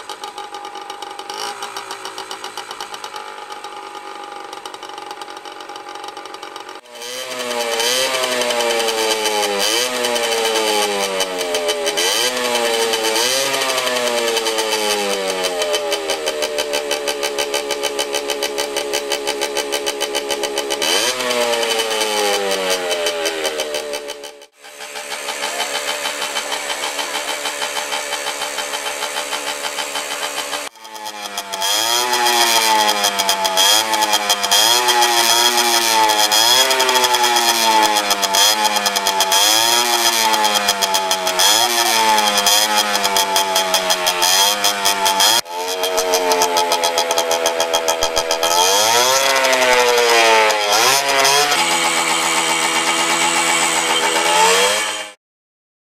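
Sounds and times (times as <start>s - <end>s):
two-stroke engine revving: 0.0s - 55.2s.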